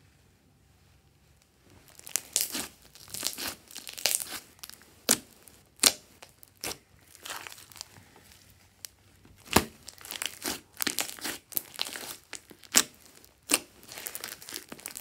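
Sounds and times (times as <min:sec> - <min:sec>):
slime squishing and crackling: 0:01.8 - 0:15.0
slime popping: 0:01.9 - 0:07.9, 0:08.8 - 0:15.0.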